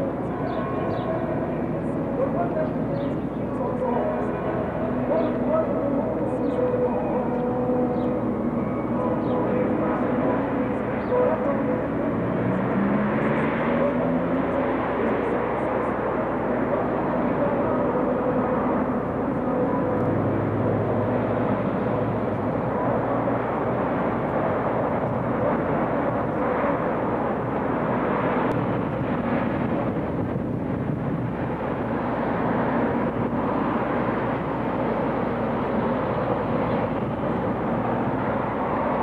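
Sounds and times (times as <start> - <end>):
city traffic passing cars: 0.0 - 39.0.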